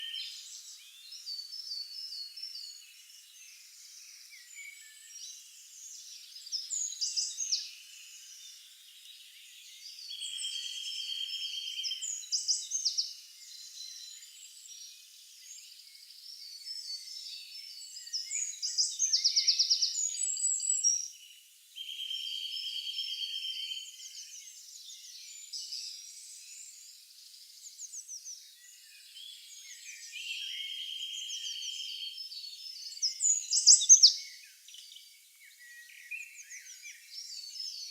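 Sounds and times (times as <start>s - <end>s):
birds chirping and trilling: 0.0s - 37.9s.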